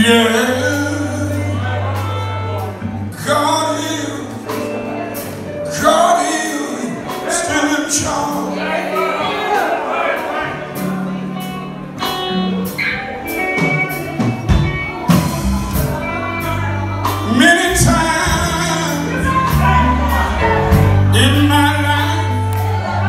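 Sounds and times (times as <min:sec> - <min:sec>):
electric bass: 0:00.0 - 0:08.8, 0:10.4 - 0:23.0
man singing: 0:00.0 - 0:11.1, 0:14.6 - 0:23.0
drums: 0:00.0 - 0:23.0
guitar: 0:00.0 - 0:23.0.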